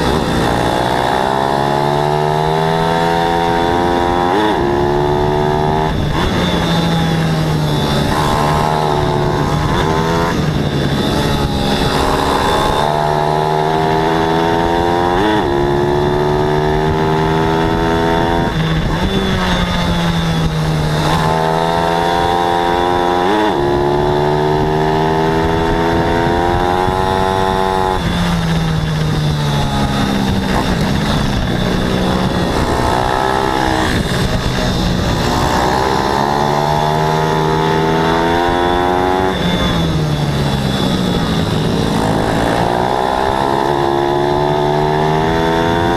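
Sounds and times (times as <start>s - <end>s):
motorbike engine revving: 0.0s - 45.9s.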